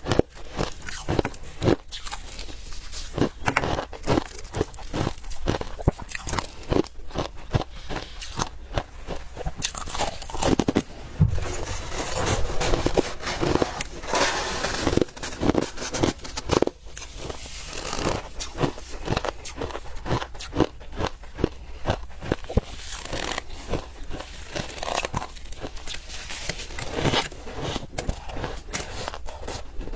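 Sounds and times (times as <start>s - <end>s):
mouth crunching ice: 0.0s - 29.9s.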